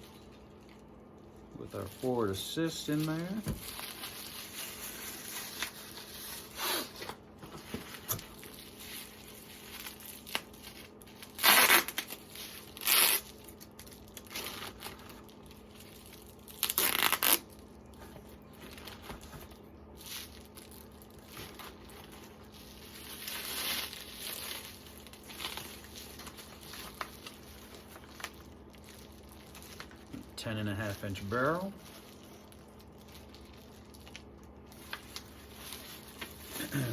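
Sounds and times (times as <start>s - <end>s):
plastic wrapping crinkling: 0.0s - 36.9s
plastic ripping: 1.7s - 36.9s.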